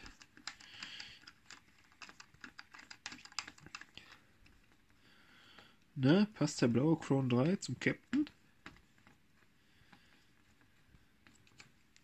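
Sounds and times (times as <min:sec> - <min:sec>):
faint irregular clicks: 0:00.0 - 0:05.9, 0:08.1 - 0:12.0.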